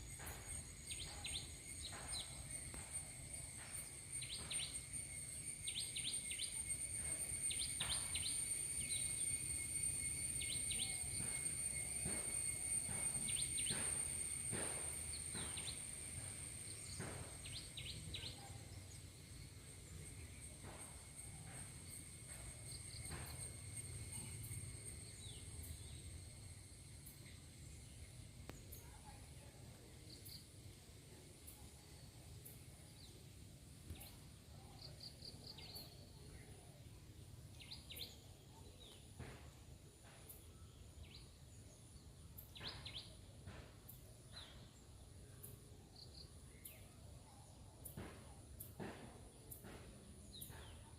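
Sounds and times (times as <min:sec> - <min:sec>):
cricket chirps: 0:00.0 - 0:50.9
insects droning: 0:00.0 - 0:50.9.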